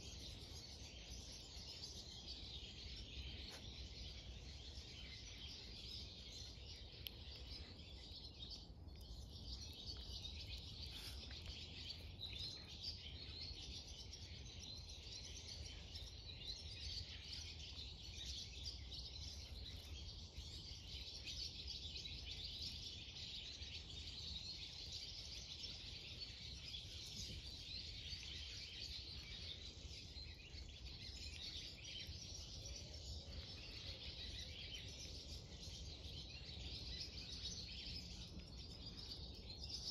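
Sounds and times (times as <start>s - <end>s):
distant songbirds twittering: 0.0s - 39.9s.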